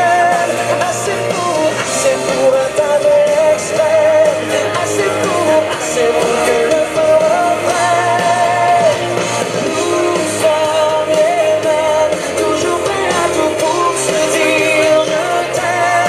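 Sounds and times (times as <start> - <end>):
instrumental backing: 0.0 - 16.0
person singing: 0.0 - 16.0.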